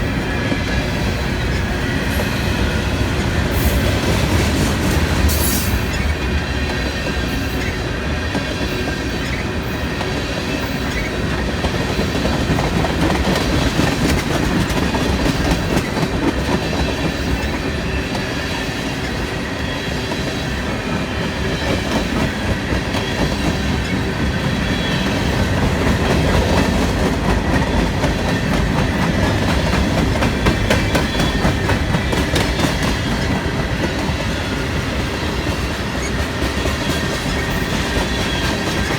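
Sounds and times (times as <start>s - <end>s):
train wheels clicking over rails: 0.0s - 38.9s.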